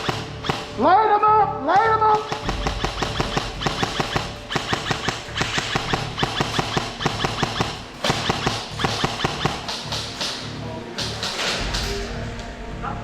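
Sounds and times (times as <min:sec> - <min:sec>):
airsoft guns firing: 0:00.0 - 0:00.9, 0:01.8 - 0:12.2.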